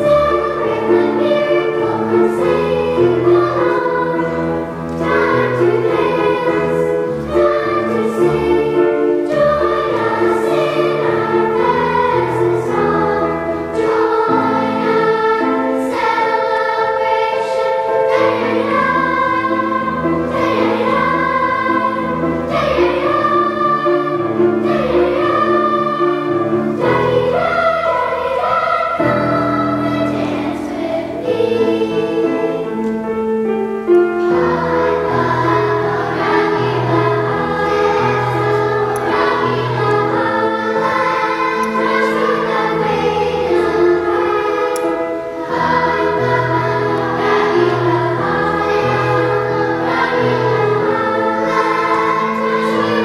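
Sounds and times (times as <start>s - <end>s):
girls' choir singing: 0.0s - 53.0s
piano accompaniment: 0.0s - 53.0s.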